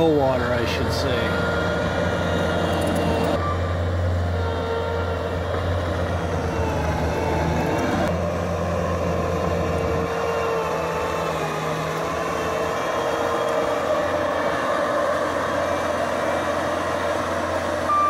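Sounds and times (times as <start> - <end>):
earthmoving machinery engine running: 0.0 - 18.0.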